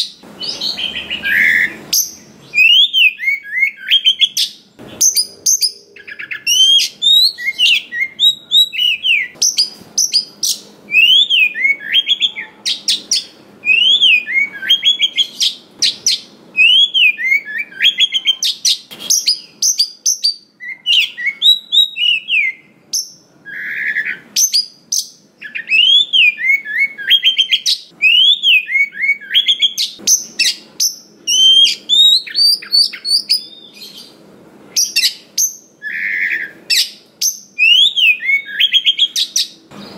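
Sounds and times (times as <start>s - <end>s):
bird singing whistled song: 0.0s - 39.6s.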